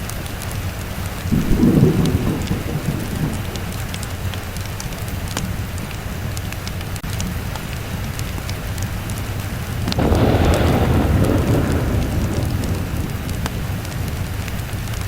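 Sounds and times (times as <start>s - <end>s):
steady rain: 0.0s - 15.0s
thunder rumbling: 0.6s - 6.4s, 7.4s - 15.0s.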